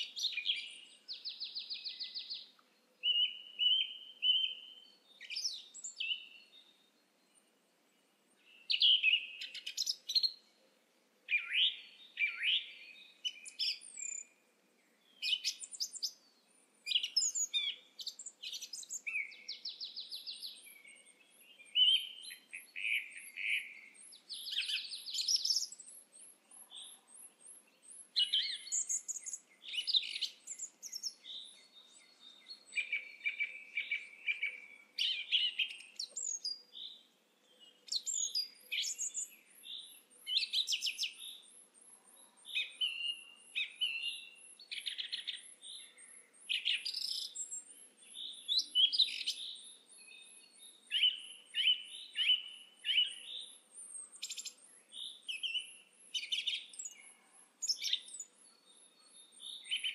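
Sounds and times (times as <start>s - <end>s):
song thrush singing: 0.0s - 59.9s.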